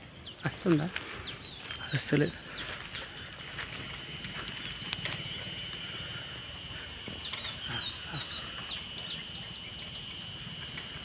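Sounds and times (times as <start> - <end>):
small birds chirping: 0.0 - 11.0
high-pitched insect drone: 0.8 - 11.0.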